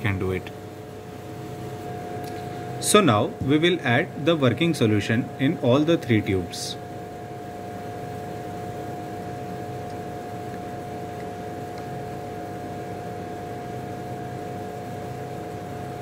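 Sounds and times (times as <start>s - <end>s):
background hum and hiss: 0.0s - 16.0s.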